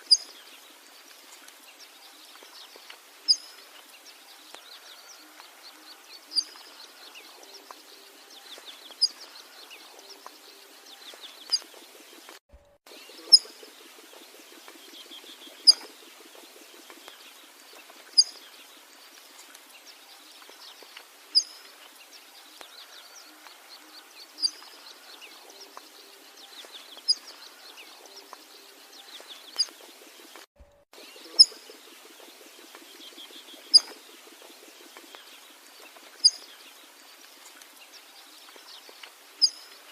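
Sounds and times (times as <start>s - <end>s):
faint bird chatter: 0.0s - 39.9s.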